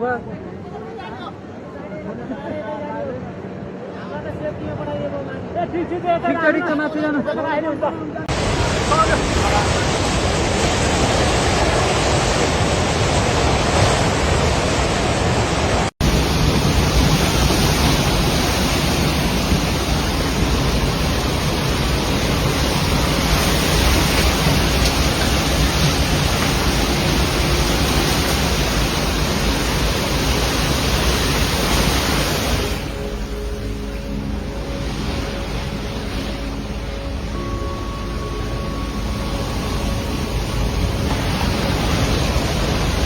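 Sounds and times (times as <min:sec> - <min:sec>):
river rushing in flood: 0:08.3 - 0:43.0.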